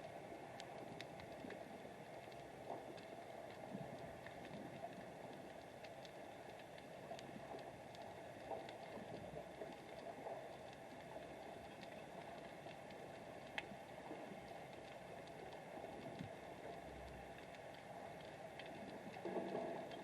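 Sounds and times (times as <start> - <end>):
small underwater clicks and crackles: 0.0 - 20.0
underwater water noise: 0.0 - 20.0.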